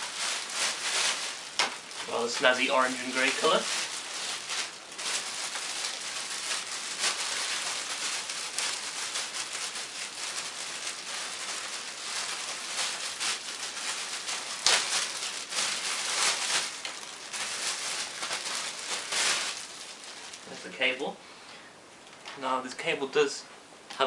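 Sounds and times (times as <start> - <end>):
plastic bag rustling and crinkling: 0.0 - 21.2.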